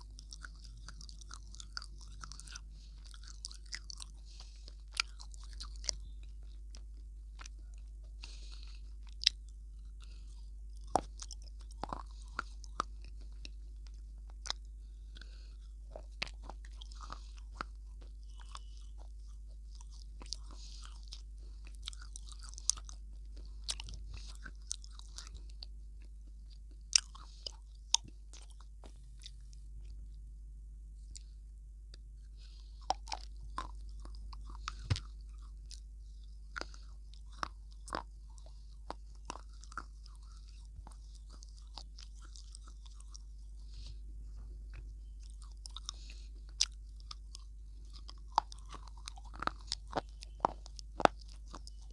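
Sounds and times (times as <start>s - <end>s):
crunchy chewing: 0.0s - 30.2s, 30.9s - 51.9s
low hum: 0.0s - 51.9s.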